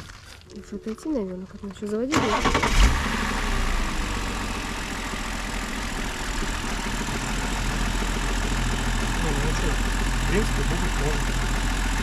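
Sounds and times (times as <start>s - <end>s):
car engine idling: 2.2s - 12.0s.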